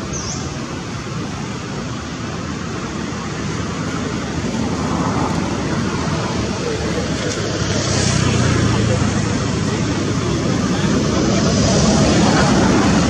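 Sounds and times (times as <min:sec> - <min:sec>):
outdoor background rumble and hiss: 0:00.0 - 0:13.0.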